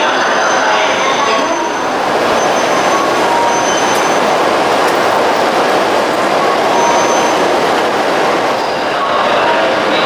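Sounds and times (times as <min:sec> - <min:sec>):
train equipment rushing noise: 0:00.1 - 0:09.9.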